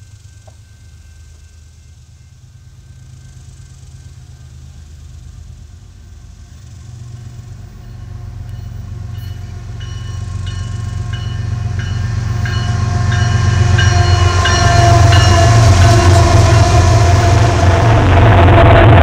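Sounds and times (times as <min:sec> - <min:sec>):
locomotive bell ringing: 0:00.0 - 0:04.8, 0:06.0 - 0:17.9
diesel locomotive engines rumbling: 0:00.0 - 0:19.0.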